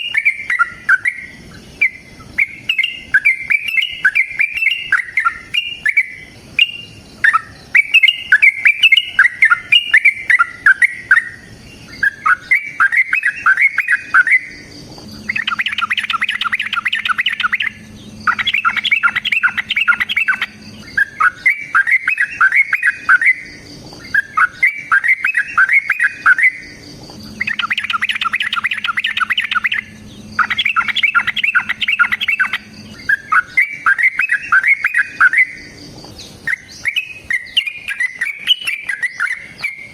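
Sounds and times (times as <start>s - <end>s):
bird chattering song: 0.0s - 39.9s
faint low hum: 0.0s - 39.9s.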